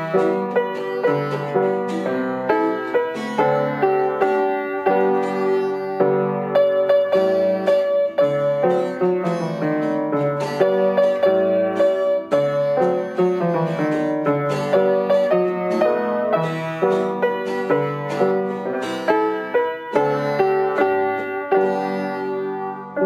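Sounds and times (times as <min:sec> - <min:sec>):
plucked instrumental music: 0:00.0 - 0:23.0.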